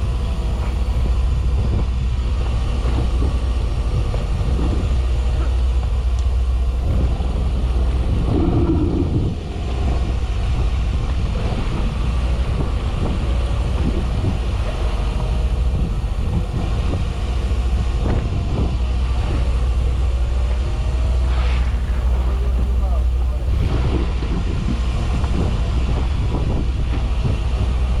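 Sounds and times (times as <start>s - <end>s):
boat engine droning: 0.0s - 28.0s
wind buffeting microphone: 0.0s - 28.0s.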